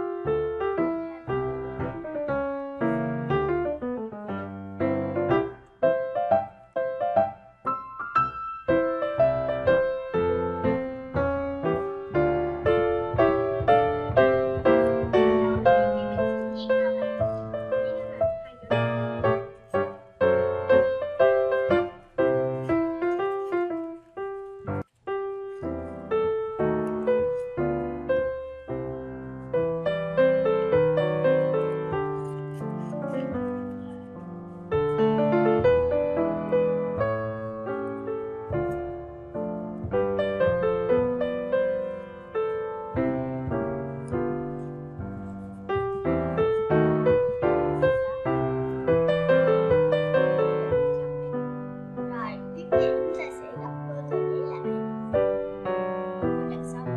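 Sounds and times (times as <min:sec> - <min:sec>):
piano music: 0:00.0 - 0:56.9.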